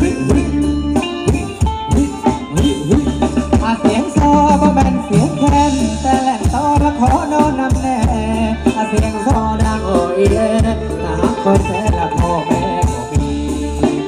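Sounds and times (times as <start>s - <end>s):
steady drum beat: 0.0s - 14.0s
sung melody: 0.0s - 14.0s.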